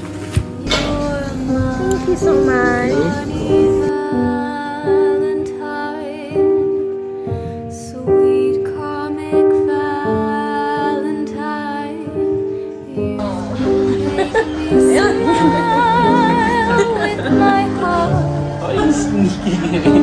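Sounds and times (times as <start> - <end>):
slow gentle background music: 0.0 - 20.0.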